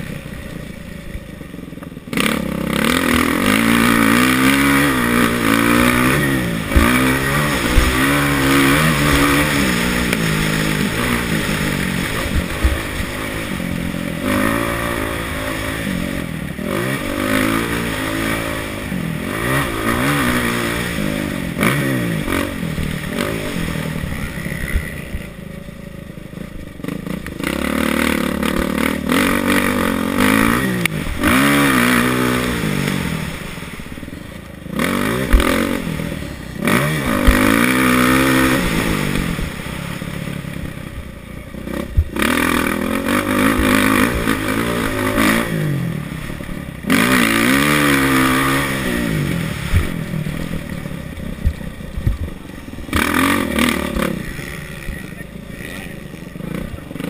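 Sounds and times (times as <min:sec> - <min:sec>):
motocross engine revving: 0:00.0 - 0:57.0.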